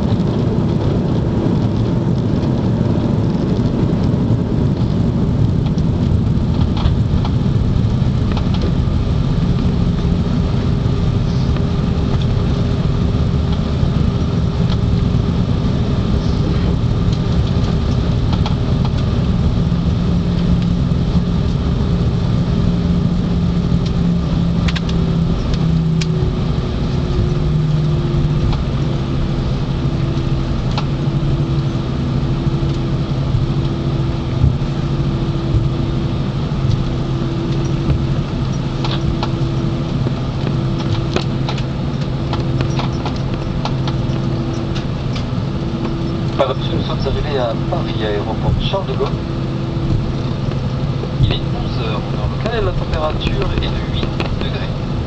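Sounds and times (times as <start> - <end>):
airplane cabin engine rumble: 0.0 - 55.0
low hum: 0.0 - 55.0.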